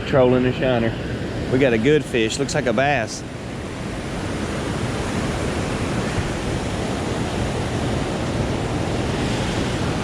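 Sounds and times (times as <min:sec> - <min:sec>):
rushing water: 0:00.0 - 0:10.0
strong wind: 0:00.0 - 0:10.0
wind buffeting the microphone: 0:00.0 - 0:10.0.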